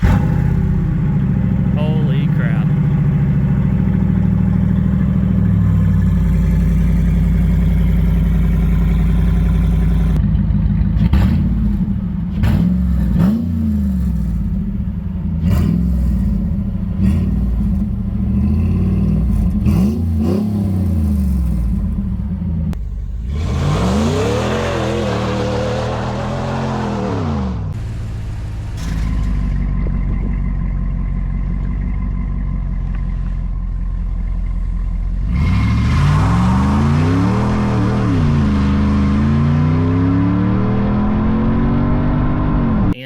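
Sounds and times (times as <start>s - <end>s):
engine idling and revving: 0.0s - 43.0s.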